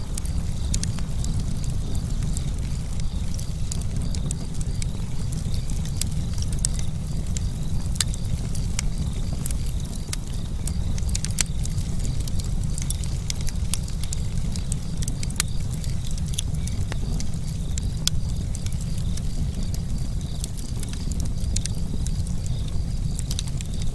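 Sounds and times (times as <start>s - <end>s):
burning wood crackling and popping: 0.0s - 23.9s.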